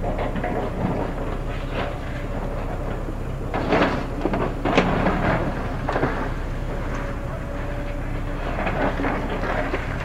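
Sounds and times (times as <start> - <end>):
heavy machinery rumbling: 0.0 - 10.0.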